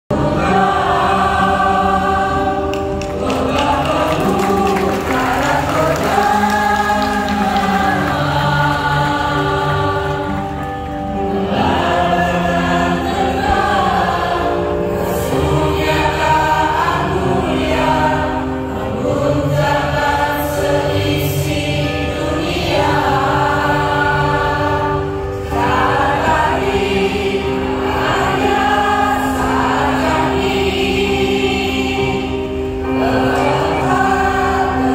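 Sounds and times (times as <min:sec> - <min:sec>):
choir singing in harmony: 0:00.1 - 0:34.9.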